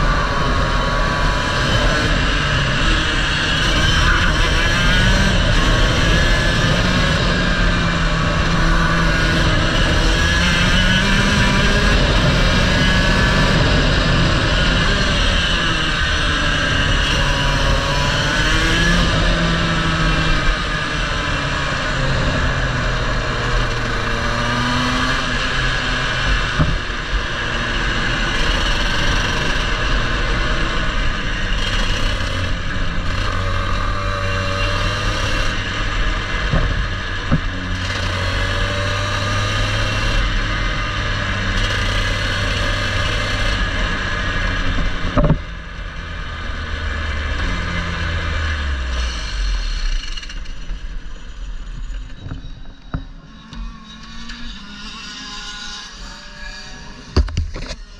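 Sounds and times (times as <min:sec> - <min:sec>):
kart engine running: 0:00.0 - 0:57.9.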